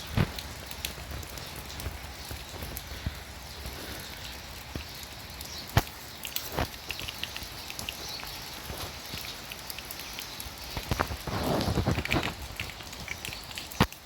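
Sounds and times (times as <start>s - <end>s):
drops ticking: 0.0s - 14.0s
rain falling: 0.0s - 14.0s.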